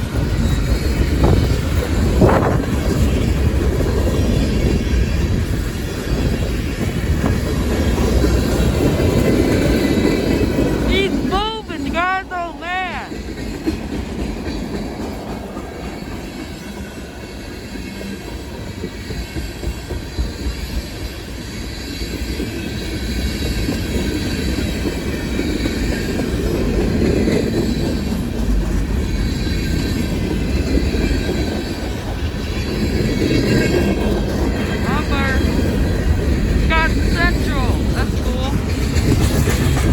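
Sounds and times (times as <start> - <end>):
freight train wheels rumbling on rail: 0.0 - 39.9.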